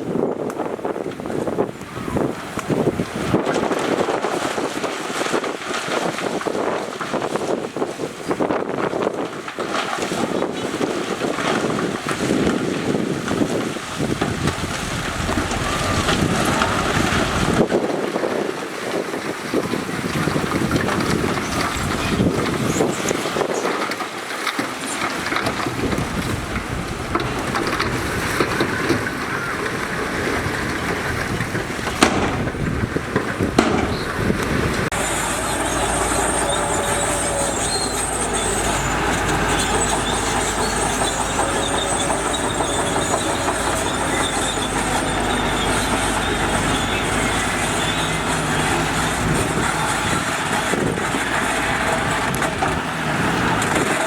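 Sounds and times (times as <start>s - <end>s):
heavy machinery diesel engines: 0.0s - 54.0s
wind buffeting microphone: 0.0s - 54.0s.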